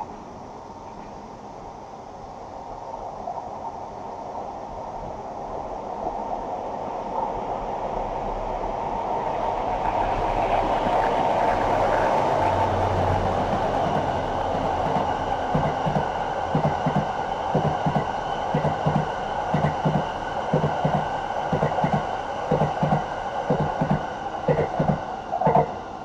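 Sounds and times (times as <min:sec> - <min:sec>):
train rolling past: 0:00.0 - 0:26.0.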